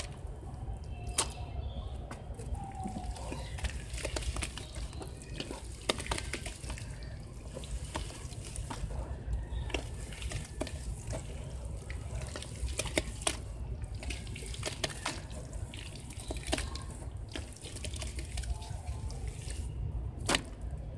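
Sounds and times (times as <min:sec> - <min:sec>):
hands squelching wet mud: 0:00.0 - 0:20.9
wet splats: 0:01.0 - 0:01.5, 0:02.1 - 0:09.0, 0:09.6 - 0:20.7.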